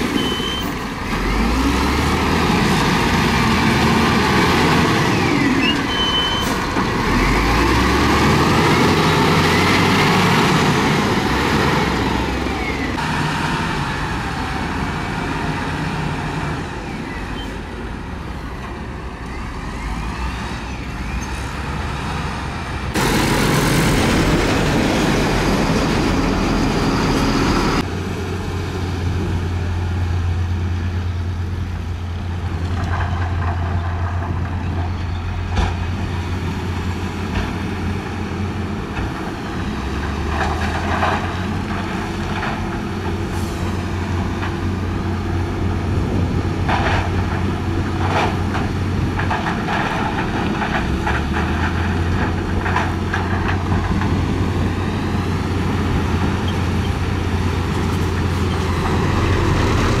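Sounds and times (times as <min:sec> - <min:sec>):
diesel truck engines running: 0:00.0 - 1:00.0.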